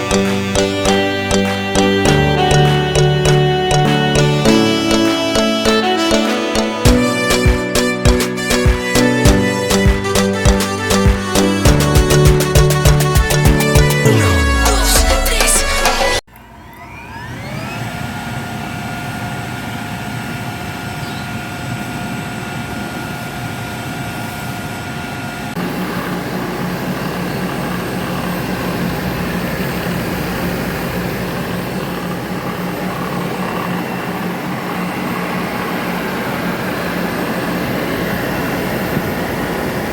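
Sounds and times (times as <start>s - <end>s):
air blower whining: 0.0s - 39.9s.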